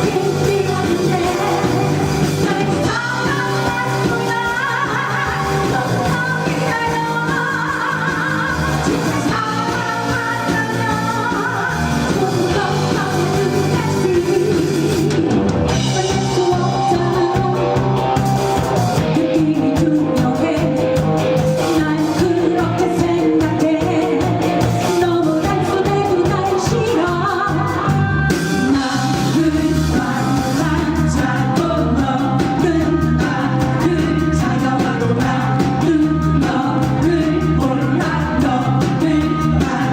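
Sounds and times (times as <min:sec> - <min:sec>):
person singing: 0:00.0 - 0:18.1, 0:19.0 - 0:39.9
rock band playing: 0:00.0 - 0:39.9.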